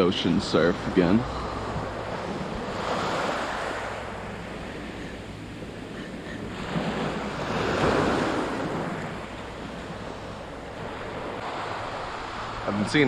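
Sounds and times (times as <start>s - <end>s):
ocean surf washing ashore: 0.0s - 13.0s
wind rumbling on microphone: 0.0s - 13.0s.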